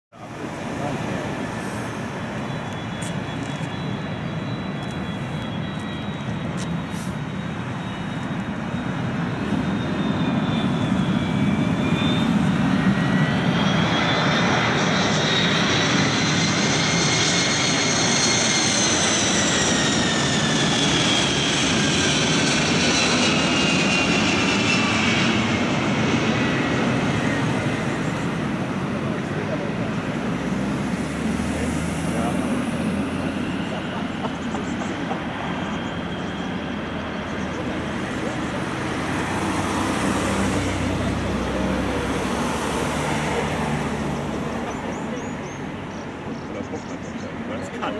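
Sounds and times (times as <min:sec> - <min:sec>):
jet engines on approach: 0:00.1 - 0:47.9.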